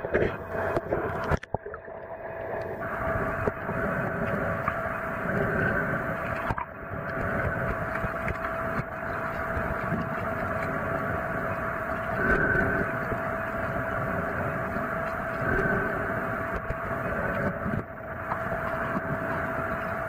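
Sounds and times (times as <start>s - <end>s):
constant hum: 0.0s - 20.0s
muffled underwater rumble and hiss: 0.0s - 20.0s.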